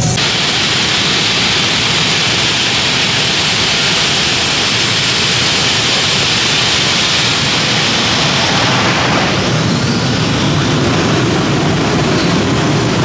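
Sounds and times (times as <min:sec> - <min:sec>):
faint high whine: 0:00.0 - 0:13.0
tractor engines roaring: 0:00.0 - 0:13.0.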